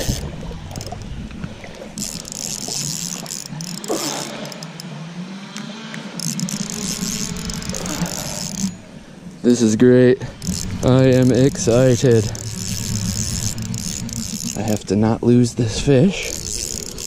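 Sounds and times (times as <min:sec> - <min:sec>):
fishing reel gears whirring: 0:00.0 - 0:01.1, 0:01.8 - 0:05.0, 0:06.1 - 0:09.0, 0:09.6 - 0:17.0.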